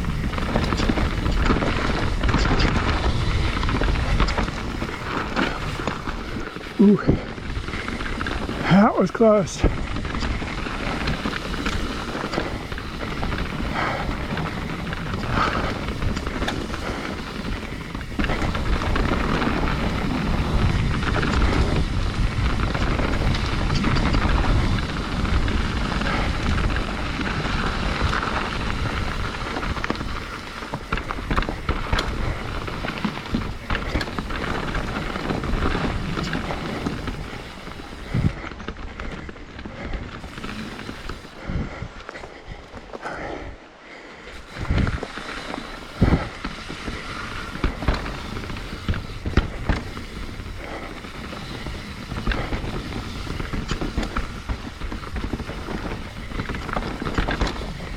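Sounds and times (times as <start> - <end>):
bike rattling and knocking: 0.0 - 57.9
tyres rumbling over dirt: 0.0 - 57.9
wind buffeting microphone: 0.0 - 57.9.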